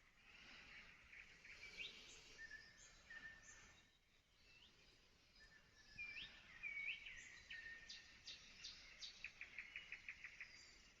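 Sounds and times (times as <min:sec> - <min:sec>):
faint songbird song: 0:00.0 - 0:11.0.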